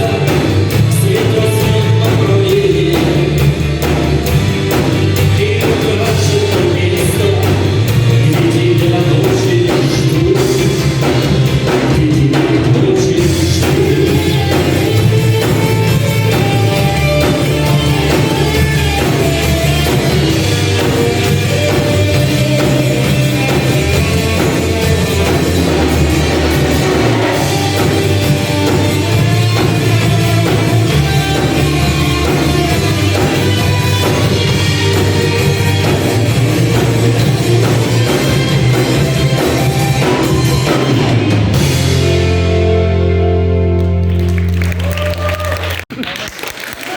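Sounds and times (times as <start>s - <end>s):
rock band playing live: 0.0s - 45.9s
drums: 0.0s - 46.9s.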